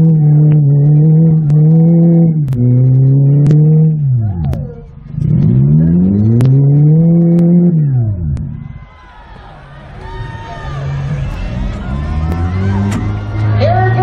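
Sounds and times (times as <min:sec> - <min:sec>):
car engine revving hard: 0:00.0 - 0:08.7, 0:09.6 - 0:14.0.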